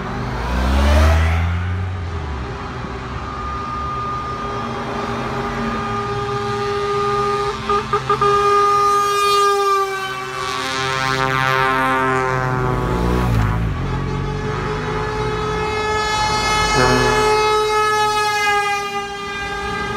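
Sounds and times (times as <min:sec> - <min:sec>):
diesel engines rumbling: 0:00.0 - 0:19.9
truck air horns: 0:03.6 - 0:19.9.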